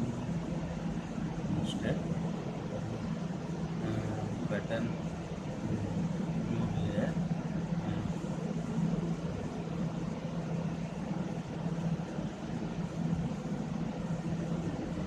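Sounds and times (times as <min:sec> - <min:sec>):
constant background noise: 0:00.0 - 0:15.0
low machine hum: 0:00.0 - 0:15.0.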